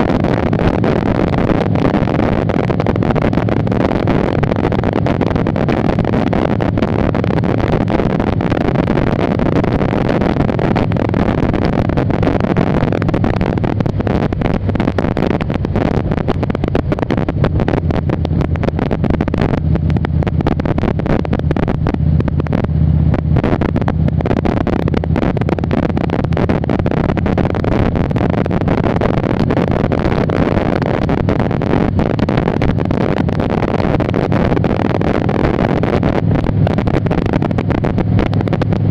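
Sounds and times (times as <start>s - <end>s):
motorcycle engine low note: 0.0s - 38.9s
wind buffeting microphone: 0.0s - 38.9s.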